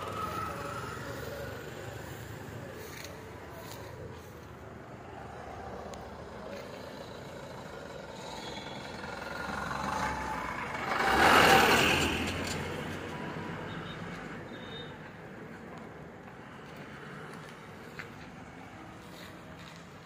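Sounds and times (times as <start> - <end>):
truck passing by: 0.0 - 20.0.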